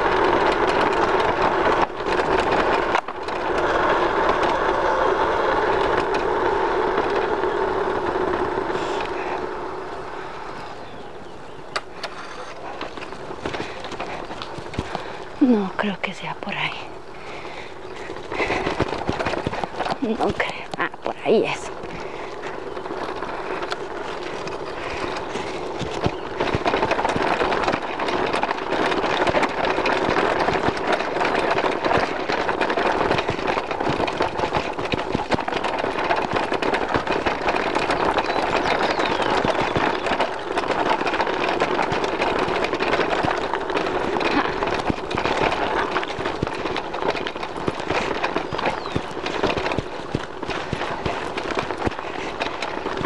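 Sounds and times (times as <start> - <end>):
bike rattling over cobblestones: 0.0 - 53.0.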